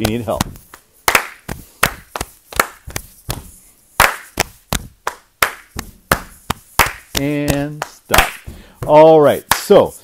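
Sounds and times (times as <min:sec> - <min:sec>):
sharp hand claps: 0:00.0 - 0:08.6, 0:09.4 - 0:09.8
chest and thigh pats: 0:00.0 - 0:09.8.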